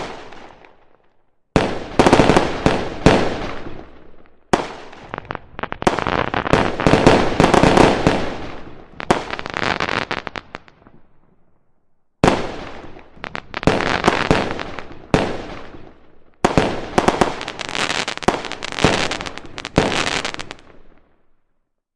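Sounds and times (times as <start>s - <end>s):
fireworks banging and crackling: 0.0s - 11.2s, 12.2s - 21.2s.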